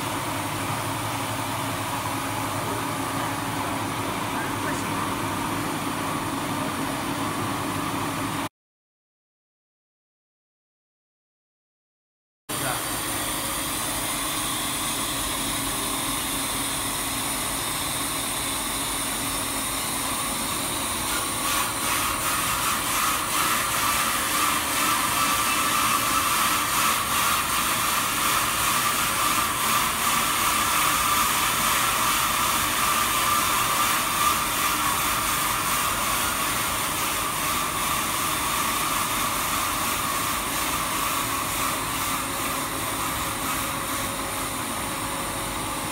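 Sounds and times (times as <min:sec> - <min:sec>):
deburring machine running: 0:00.0 - 0:08.5, 0:12.5 - 0:45.9
steady machine whine: 0:00.0 - 0:08.5, 0:12.5 - 0:45.9.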